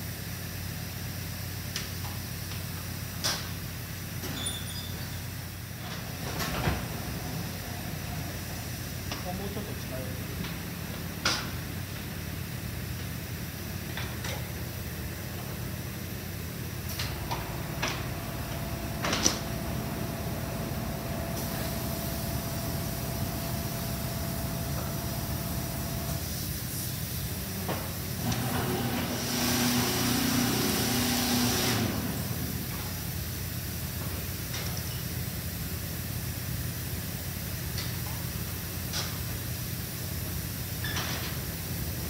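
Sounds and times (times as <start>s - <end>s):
kiln machinery humming: 0.1s - 42.0s.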